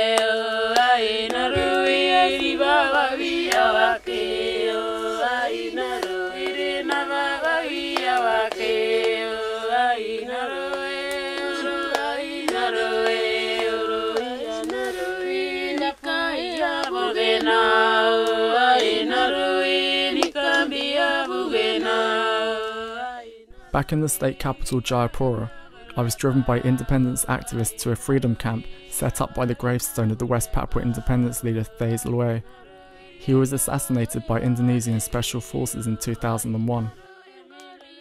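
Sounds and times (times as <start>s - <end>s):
women singing a lament: 0.0s - 38.0s.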